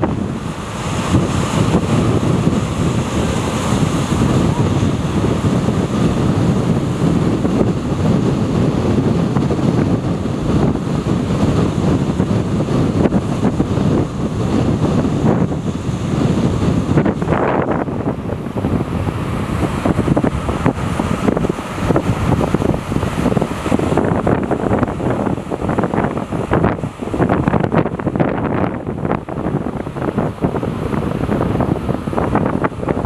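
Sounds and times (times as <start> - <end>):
ocean surf breaking on rocks: 0.0 - 33.0
wind buffeting microphone: 0.0 - 33.0.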